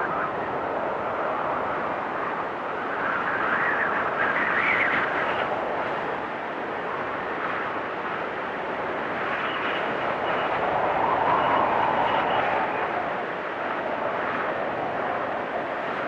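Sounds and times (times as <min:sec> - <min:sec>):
wind storm with whistling gusts: 0:00.0 - 0:16.0.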